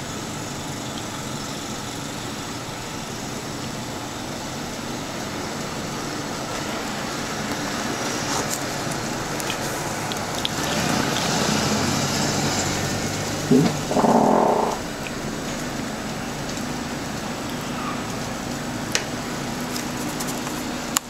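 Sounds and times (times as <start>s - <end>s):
motor vehicle running: 0.0s - 21.0s.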